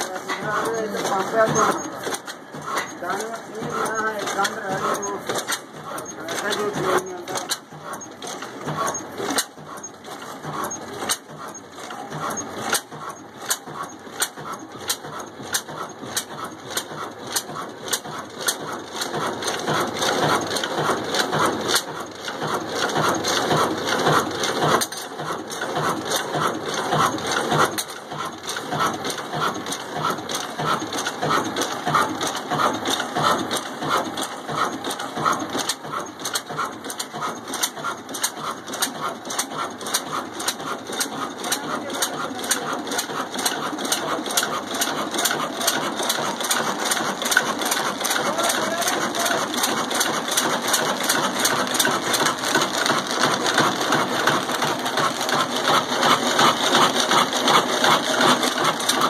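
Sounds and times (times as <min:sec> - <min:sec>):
diesel engine knocking: 0:00.0 - 0:59.0.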